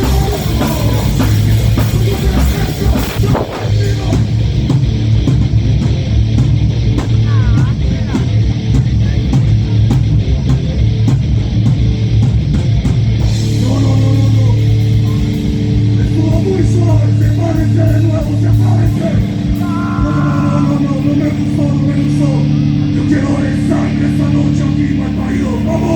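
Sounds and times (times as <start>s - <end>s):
drums beating: 0.0s - 23.0s
heavy metal band playing live: 0.0s - 25.9s
lead guitar melody: 0.0s - 25.9s.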